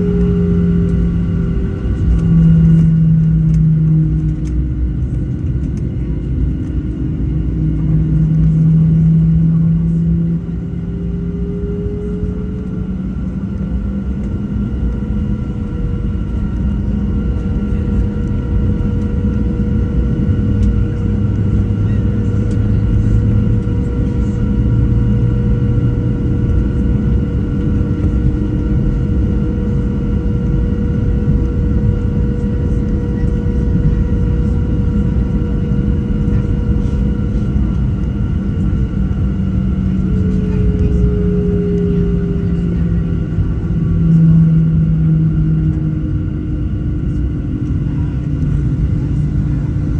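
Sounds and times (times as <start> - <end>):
jet engine cabin rumble: 0.0 - 49.9
steady whining tones: 0.0 - 49.9.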